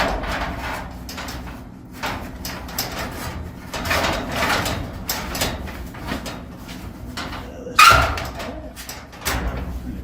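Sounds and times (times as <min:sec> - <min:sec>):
metal strip scraping on metal door: 0:00.0 - 0:10.0.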